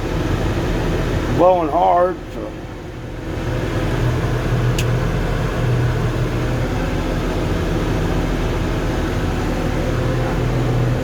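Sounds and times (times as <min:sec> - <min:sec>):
air-conditioning blower: 0:00.0 - 0:11.0
diesel engine running: 0:00.0 - 0:11.0.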